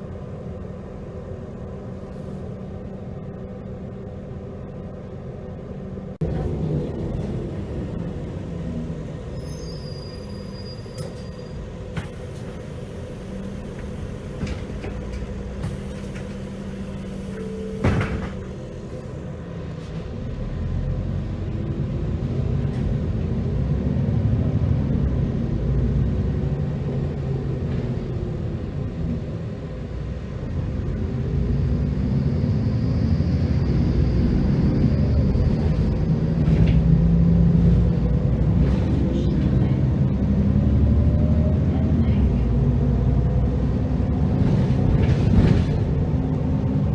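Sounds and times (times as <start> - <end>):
bus engine accelerating: 0.0 - 46.9.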